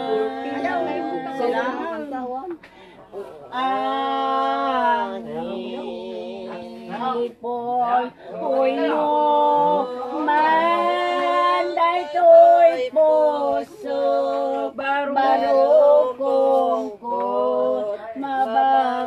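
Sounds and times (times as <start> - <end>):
person singing unaccompanied: 0.0 - 2.3, 3.5 - 19.0.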